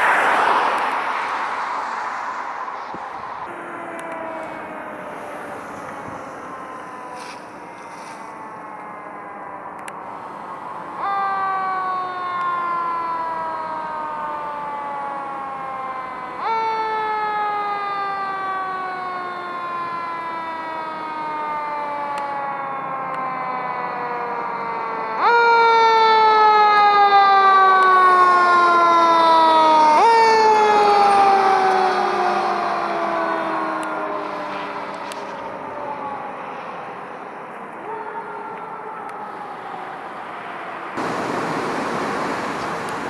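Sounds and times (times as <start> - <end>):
fire truck siren wailing: 0.0 - 43.0.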